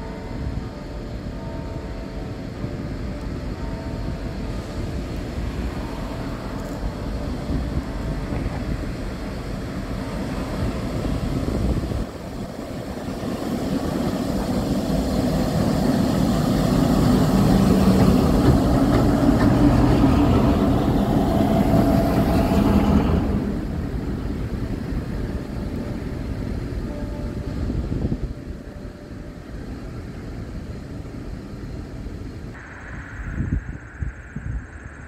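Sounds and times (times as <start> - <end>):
diesel locomotive engines droning: 0.0 - 35.0.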